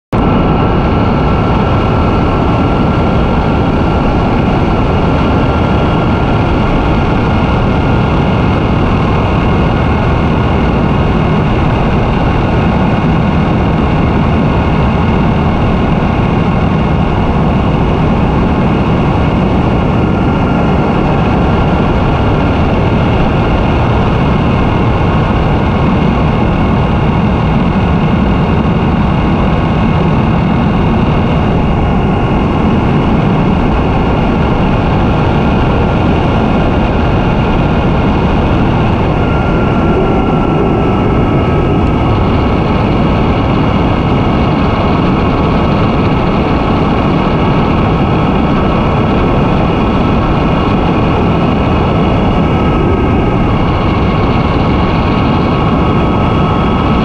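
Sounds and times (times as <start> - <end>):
wind and road noise: 0.2 - 57.0.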